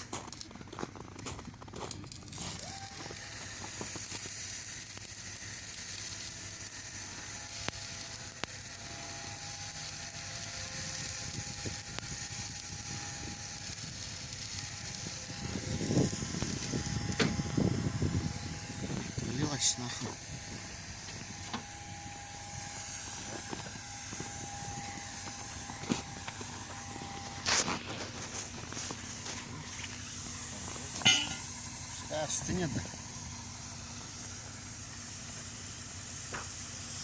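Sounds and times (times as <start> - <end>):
arc welding crackling sizzle: 0.0 - 37.0.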